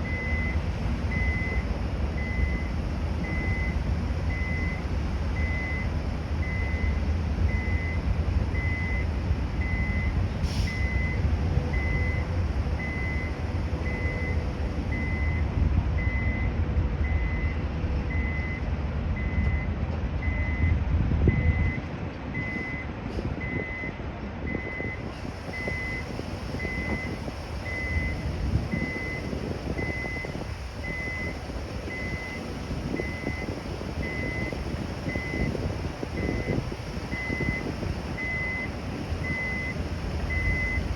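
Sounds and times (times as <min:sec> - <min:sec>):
diesel engine rumble: 0:00.0 - 0:40.9
reversing alarm beeping: 0:00.0 - 0:40.9.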